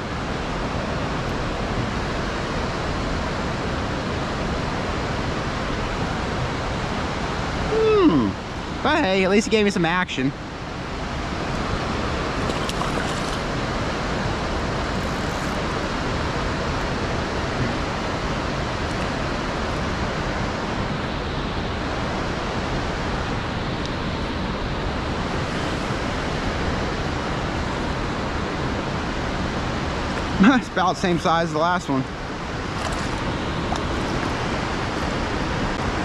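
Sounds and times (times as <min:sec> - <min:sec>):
water rushing from a dam: 0:00.0 - 0:36.0.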